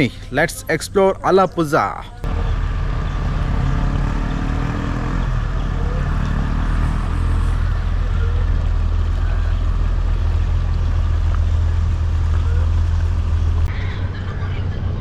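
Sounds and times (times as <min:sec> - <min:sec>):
boat engine droning: 0:02.1 - 0:15.0.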